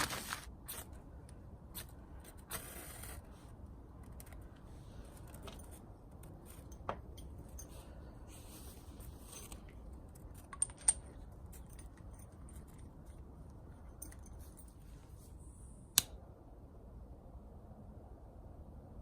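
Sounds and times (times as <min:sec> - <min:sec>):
low steady background: 0:00.0 - 0:19.0.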